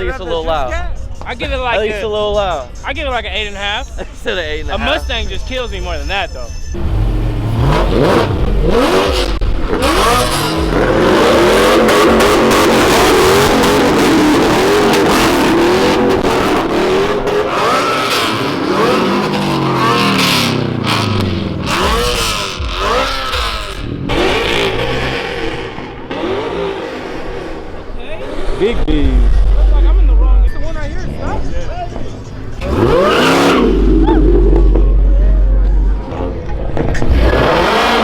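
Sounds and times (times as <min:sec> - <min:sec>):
car engine revving: 0:06.7 - 0:38.0.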